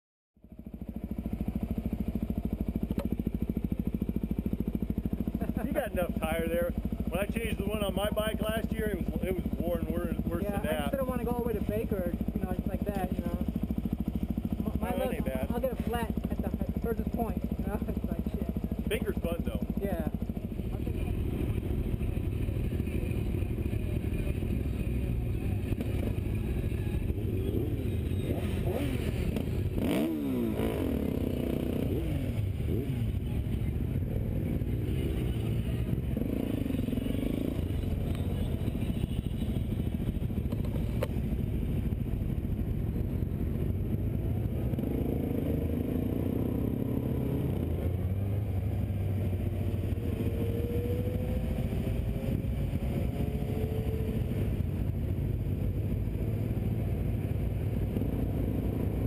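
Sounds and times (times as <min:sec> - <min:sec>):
motorcycle engines revving: 0:00.4 - 0:59.0.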